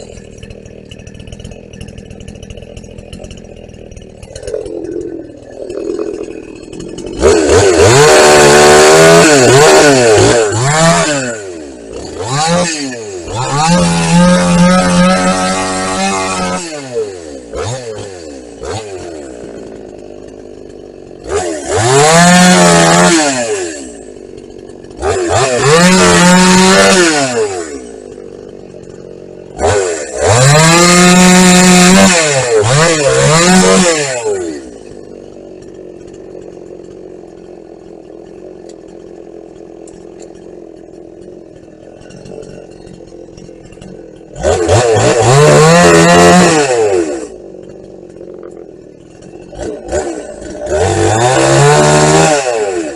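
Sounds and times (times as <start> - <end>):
chainsaw revving and idling: 0.0 - 52.9.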